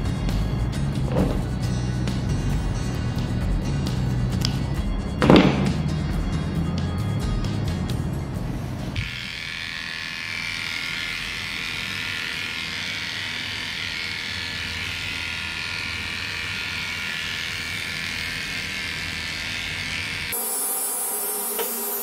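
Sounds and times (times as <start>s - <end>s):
electric pet clipper buzzing: 0.0s - 6.1s, 8.9s - 22.0s.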